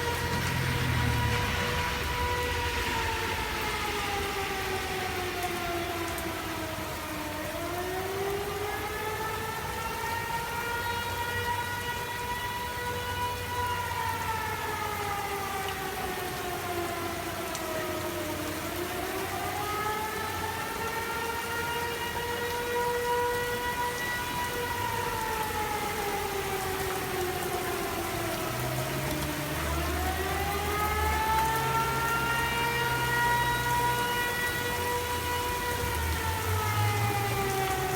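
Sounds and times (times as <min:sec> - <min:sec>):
warning siren wailing: 0:00.0 - 0:37.9.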